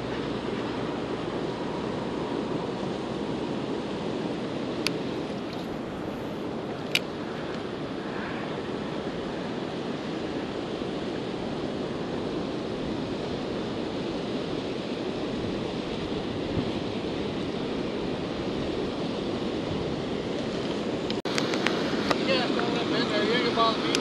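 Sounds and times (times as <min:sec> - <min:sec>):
water rushing over spillway: 0:00.0 - 0:24.0.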